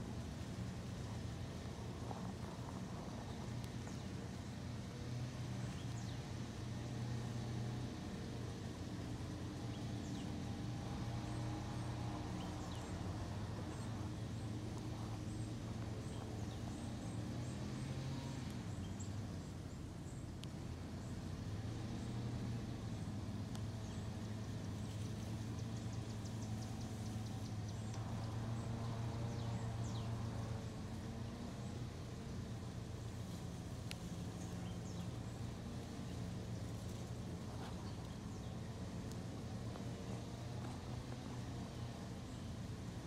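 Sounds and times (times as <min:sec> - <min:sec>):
low mechanical drone: 0:00.0 - 0:43.0.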